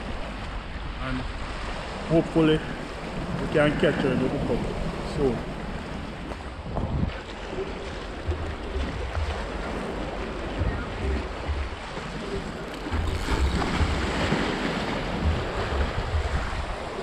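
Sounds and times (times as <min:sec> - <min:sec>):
sea waves washing against rocks: 0:00.0 - 0:17.0
wind buffeting microphone: 0:00.0 - 0:17.0.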